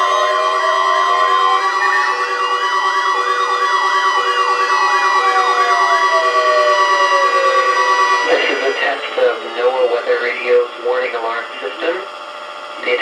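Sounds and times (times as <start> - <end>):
siren-like warbling: 0.0 - 13.0
steady electronic tones: 0.0 - 13.0.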